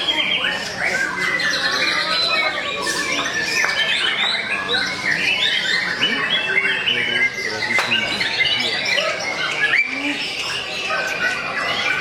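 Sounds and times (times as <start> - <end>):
faint background murmur: 0.0 - 12.0
songbirds singing: 0.0 - 12.0.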